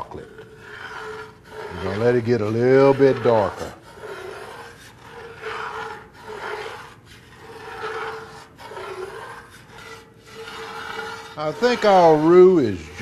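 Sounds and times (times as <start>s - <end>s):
metal spoon scraping a pot: 0.0s - 13.0s.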